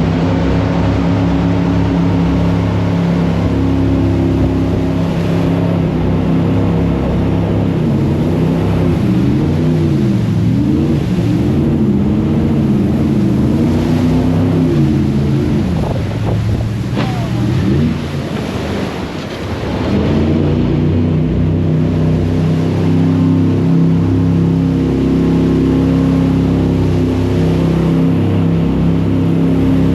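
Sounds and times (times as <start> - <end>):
boat engine revving: 0.0 - 29.9
rushing wind and water spray: 0.0 - 29.9.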